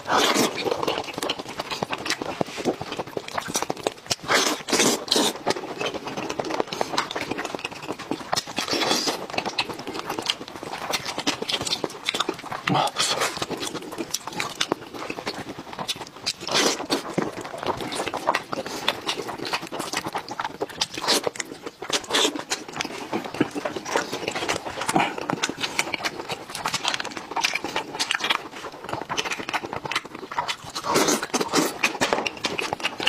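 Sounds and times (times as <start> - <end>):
slurping: 0.0 - 33.0
wet chewing and lip smacking: 0.0 - 33.0.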